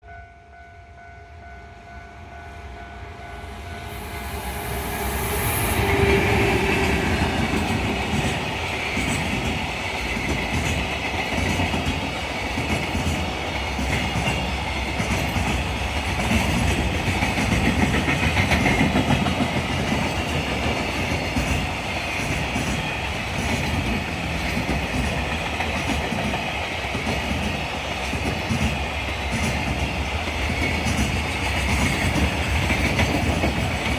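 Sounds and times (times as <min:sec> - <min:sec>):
train wheels clattering over joints: 0:05.8 - 0:33.9.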